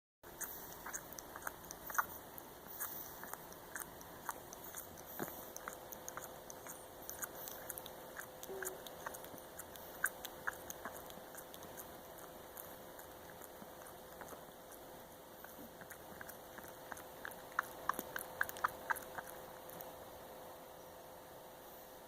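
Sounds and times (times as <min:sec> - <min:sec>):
puppy mouth sucking clicks: 0:00.3 - 0:20.0.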